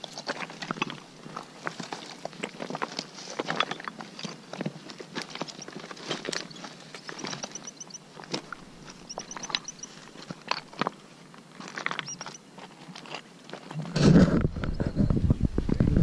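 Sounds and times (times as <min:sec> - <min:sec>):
footsteps on stony ground: 0:00.0 - 0:14.6.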